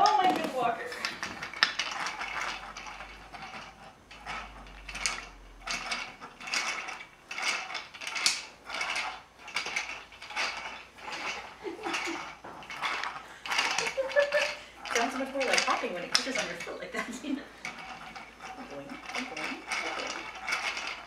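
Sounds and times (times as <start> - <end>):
toy mechanism clicking and ratcheting: 0.0 - 21.0.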